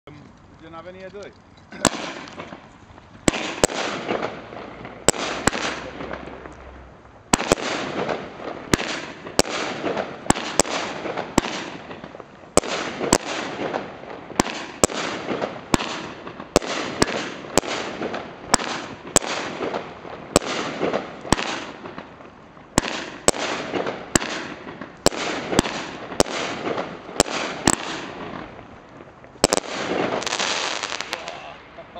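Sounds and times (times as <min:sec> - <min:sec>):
firework bangs with hiss: 0:01.8 - 0:31.8.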